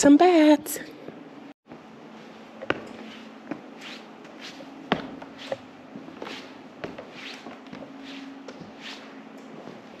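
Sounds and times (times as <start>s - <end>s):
steady low hum: 0.0s - 10.0s
footsteps on cave floor: 1.1s - 10.0s.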